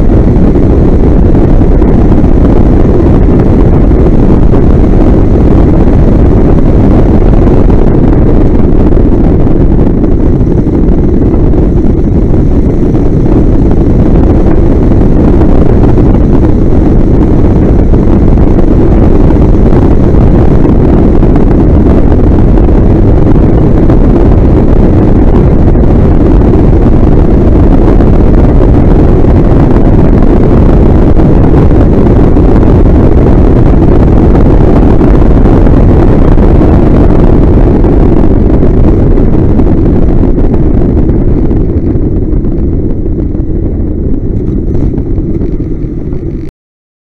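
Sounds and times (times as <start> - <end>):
wind buffeting microphone: 0.0 - 46.5.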